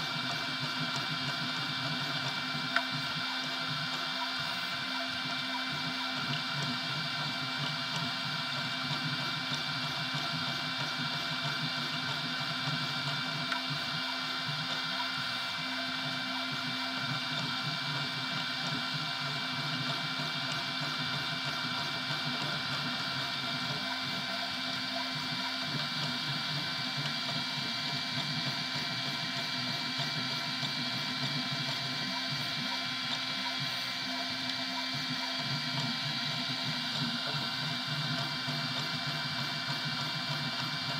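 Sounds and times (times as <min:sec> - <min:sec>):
printer motors whining and humming: 0:00.0 - 0:40.9.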